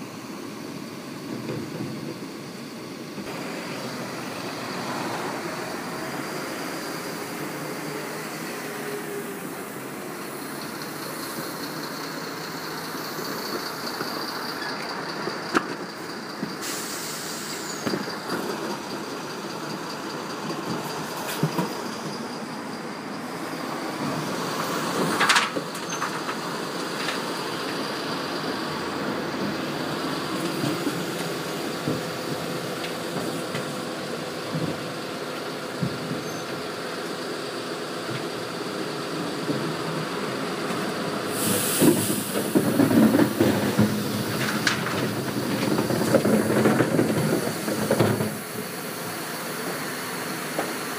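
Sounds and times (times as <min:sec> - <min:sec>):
refuse lorry machinery running: 0:00.0 - 0:50.9.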